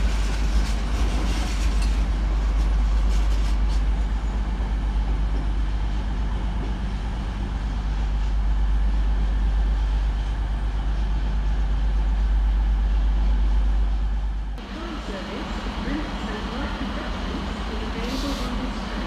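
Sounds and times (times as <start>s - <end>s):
diesel train engine rumble: 0.0s - 19.0s.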